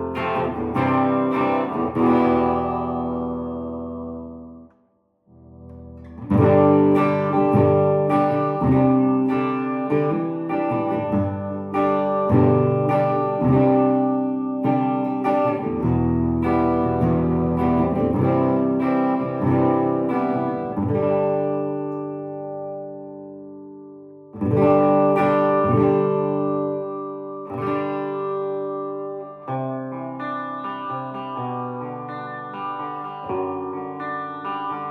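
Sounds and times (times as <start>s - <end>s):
clean electric guitar playing: 0.0s - 4.7s, 5.4s - 34.9s.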